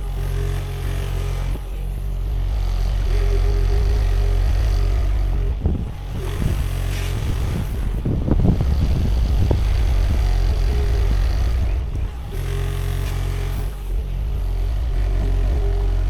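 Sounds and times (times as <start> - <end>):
excavator diesel engine: 0.0 - 16.0
hydraulic whine: 0.0 - 16.0.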